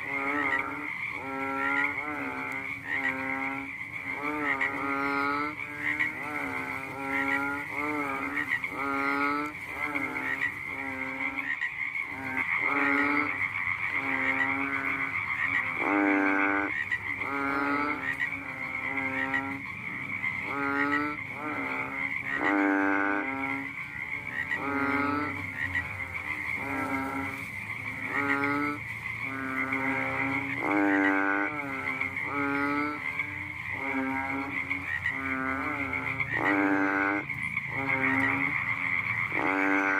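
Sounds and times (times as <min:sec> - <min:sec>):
frog croaking: 0:00.0 - 0:39.9.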